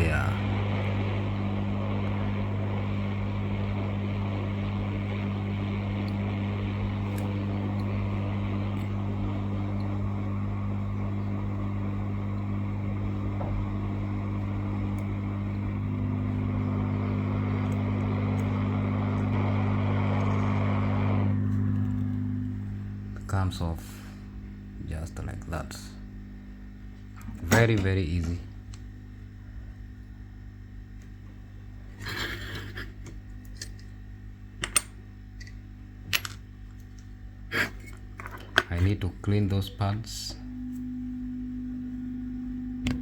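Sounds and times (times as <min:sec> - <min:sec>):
hot air station blowing: 0:00.0 - 0:27.8, 0:31.8 - 0:33.0, 0:37.4 - 0:43.0
low motor hum: 0:00.0 - 0:43.0.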